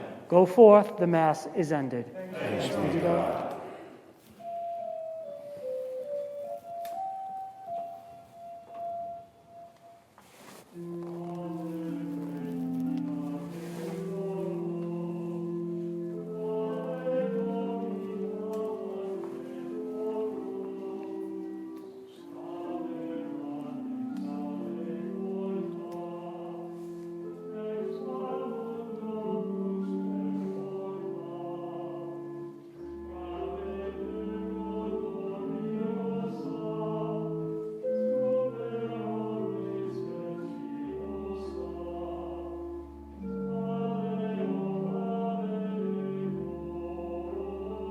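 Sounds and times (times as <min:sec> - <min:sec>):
voices singing: 0:00.0 - 0:04.6, 0:10.8 - 0:47.9
organ playing hymn: 0:02.4 - 0:47.9.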